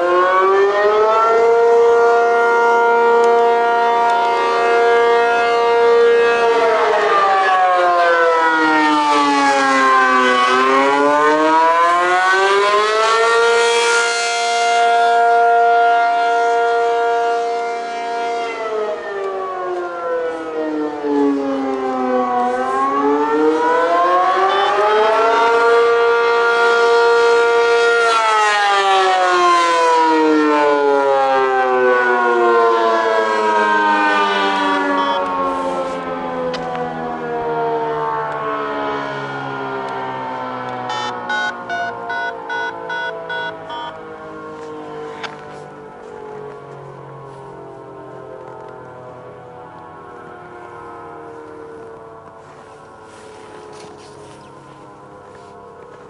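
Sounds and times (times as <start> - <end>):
wailing warning siren: 0.0 - 56.0.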